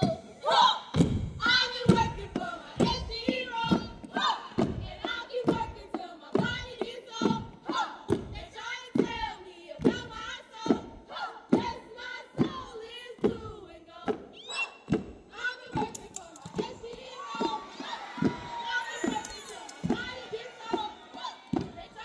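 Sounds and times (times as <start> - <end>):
group chanting and shouting: 0.0 - 22.0
rhythmic stomps: 0.9 - 22.0.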